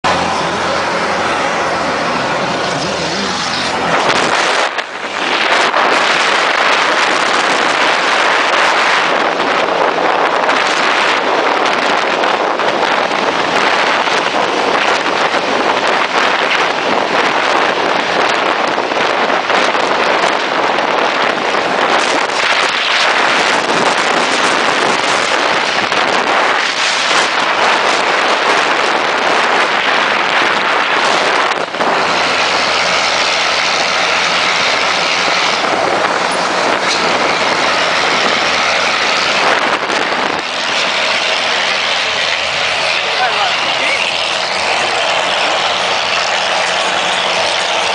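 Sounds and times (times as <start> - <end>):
steady engine note: 0.0 - 19.0, 19.7 - 47.9
vehicle noise in tunnel: 0.0 - 47.9.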